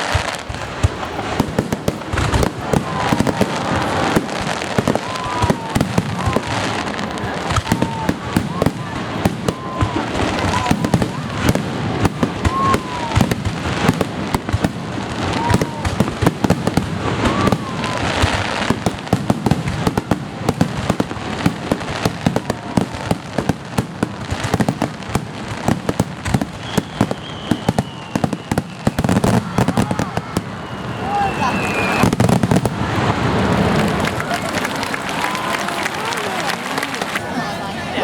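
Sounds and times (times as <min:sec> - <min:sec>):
falling firework whistle: 0:00.0 - 0:21.1, 0:25.9 - 0:37.2
fireworks bursting: 0:00.0 - 0:38.0.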